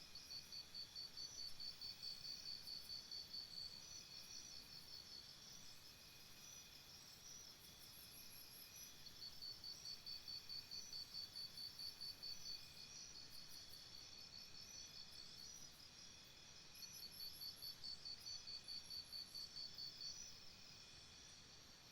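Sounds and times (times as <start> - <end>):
background insect calls: 0.0 - 21.9.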